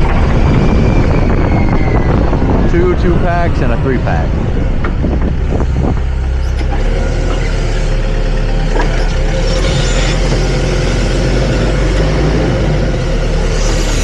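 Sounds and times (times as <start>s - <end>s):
forklift engine rumbling: 0.0s - 14.0s.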